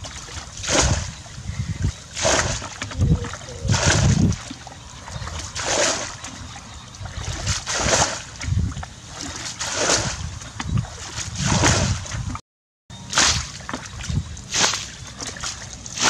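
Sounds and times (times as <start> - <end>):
water splashing from bucket: 0.0 - 1.3, 2.1 - 12.4, 13.1 - 16.0
water sloshing: 0.0 - 12.4, 13.0 - 16.0.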